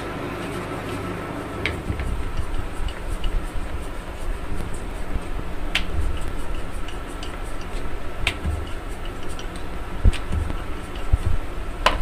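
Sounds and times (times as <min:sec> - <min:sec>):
hands patting dough on board: 0:01.6 - 0:12.0.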